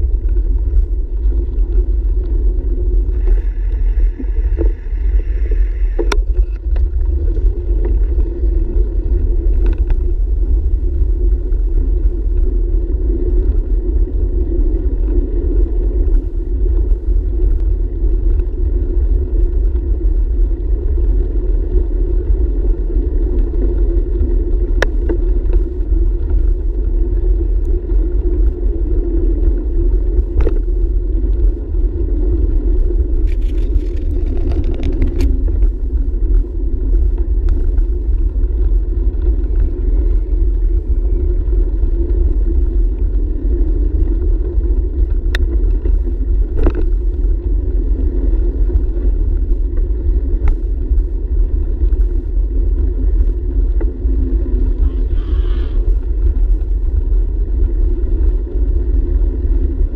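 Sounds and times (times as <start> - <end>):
bicycle tyre rumble: 0.0 - 59.9
bike rattling over bumps: 0.0 - 59.9
wind buffeting microphone: 0.0 - 59.9.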